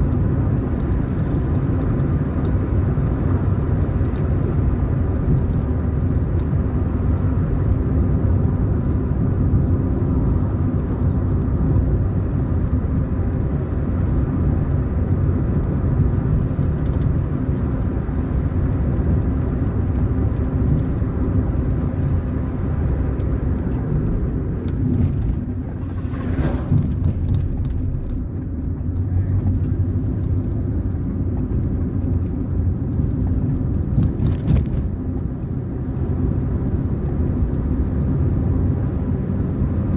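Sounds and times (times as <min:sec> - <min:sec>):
car engine hum and road noise: 0:00.0 - 0:39.9.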